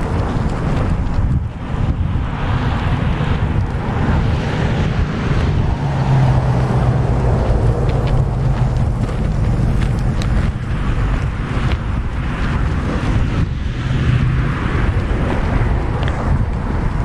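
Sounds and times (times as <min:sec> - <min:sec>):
road traffic noise: 0:00.0 - 0:17.0
wind rumbling on microphone: 0:00.0 - 0:17.0.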